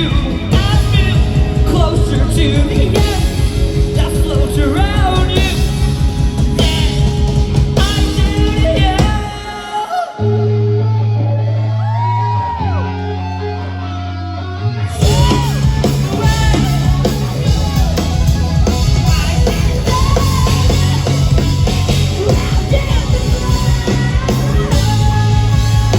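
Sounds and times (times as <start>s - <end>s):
rock music with singing and guitar: 0.0s - 25.9s.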